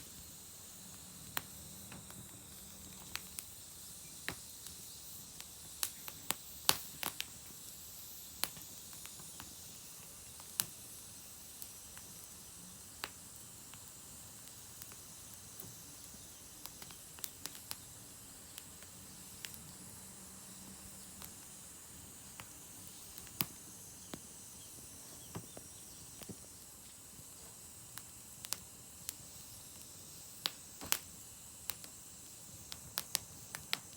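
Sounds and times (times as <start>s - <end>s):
fire hissing: 0.0s - 33.9s
wood fire crackling and popping: 0.0s - 33.9s.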